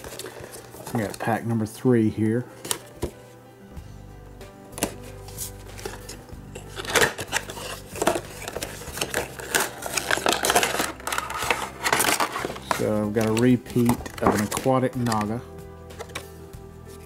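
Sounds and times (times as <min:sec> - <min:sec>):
box opening and packaging crinkling: 0:00.0 - 0:01.5, 0:02.6 - 0:03.4, 0:04.7 - 0:17.0.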